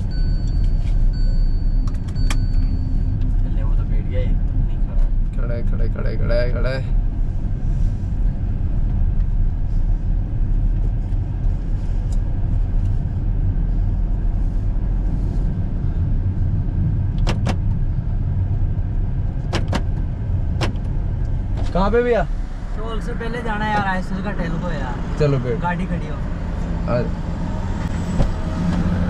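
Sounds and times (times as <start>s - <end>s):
car engine rumble: 0.0s - 29.0s
road noise: 0.0s - 29.0s.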